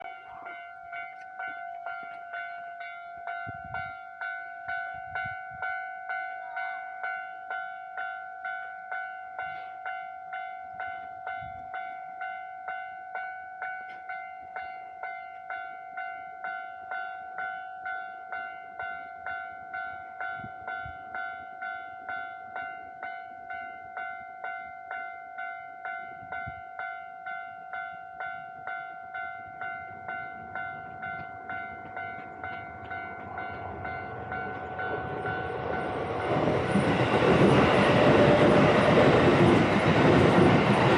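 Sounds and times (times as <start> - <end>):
level crossing warning bell: 0.0 - 40.9.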